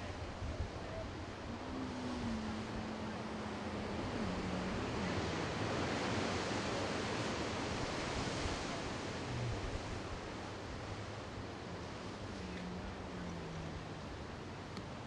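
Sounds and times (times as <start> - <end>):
faint low hum: 0.0 - 15.0
ocean surf: 0.0 - 15.0
wind: 0.0 - 15.0.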